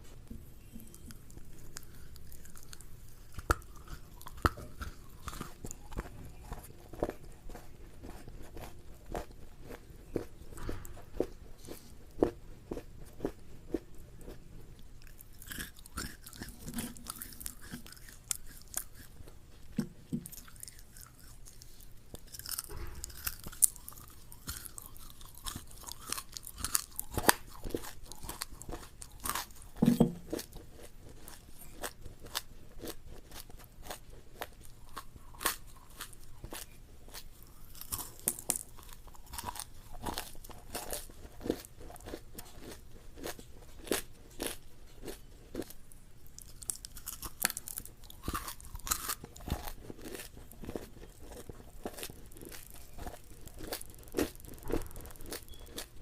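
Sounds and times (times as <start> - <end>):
crunchy chewing of food: 0.0 - 56.0.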